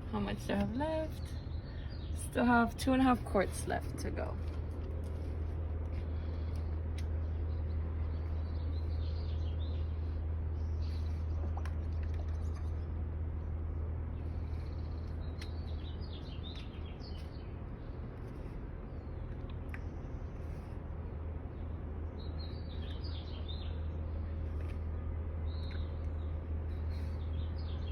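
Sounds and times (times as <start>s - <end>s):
birds chirping: 0.0s - 13.1s, 14.0s - 27.9s
low rumble: 0.0s - 27.9s.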